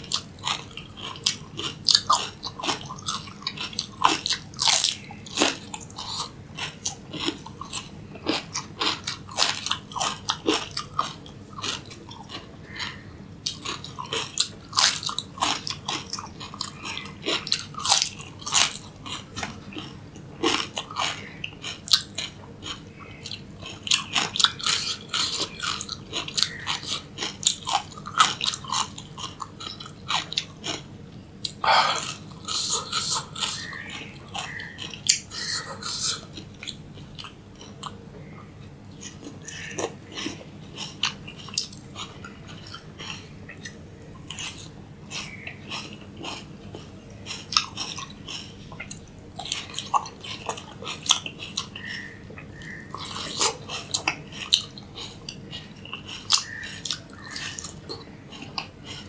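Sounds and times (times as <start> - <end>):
person crunching cucumber: 0.0 - 38.1, 38.9 - 59.0.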